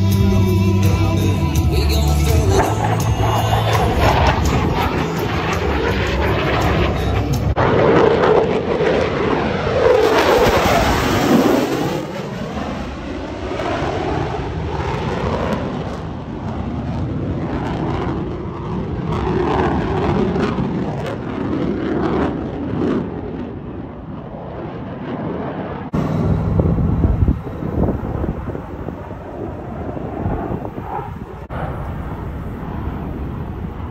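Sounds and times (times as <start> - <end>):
fighter jet engines roaring: 0.0 - 33.9.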